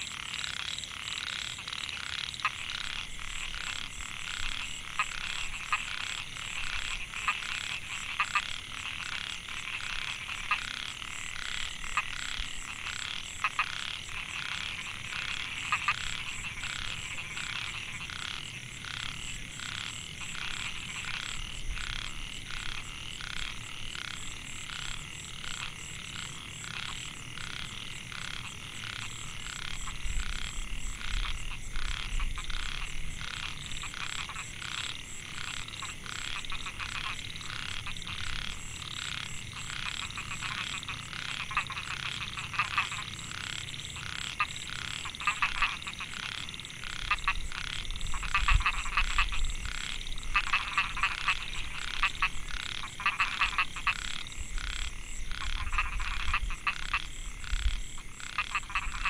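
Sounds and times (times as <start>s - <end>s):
frog chorus calling: 0.0s - 59.0s.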